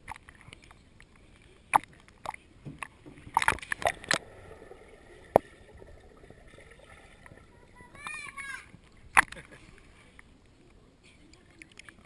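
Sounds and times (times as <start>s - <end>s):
muffled water sloshing and gurgling: 0.0s - 10.5s.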